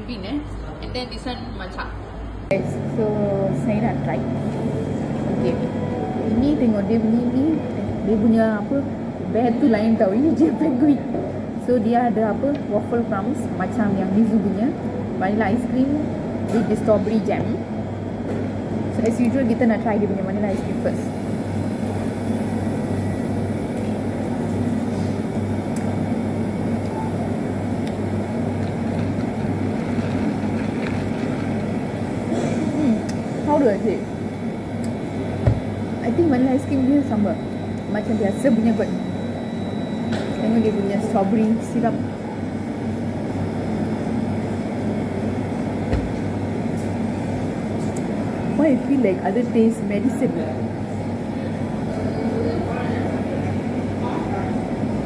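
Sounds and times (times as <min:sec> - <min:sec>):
low machinery hum: 0:00.0 - 0:55.0.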